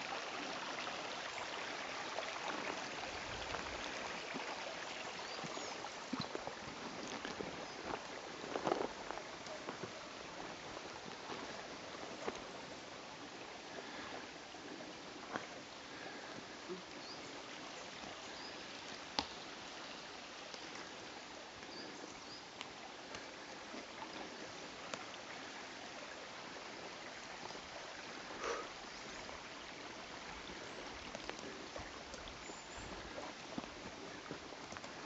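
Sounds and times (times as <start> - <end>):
outdoor hiss: 0.0 - 35.0.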